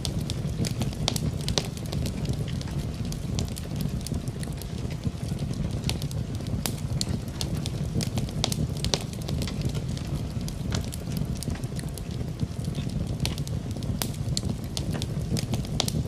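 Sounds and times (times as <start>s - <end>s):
rain: 0.0s - 16.0s
wood fire crackling: 0.0s - 16.0s.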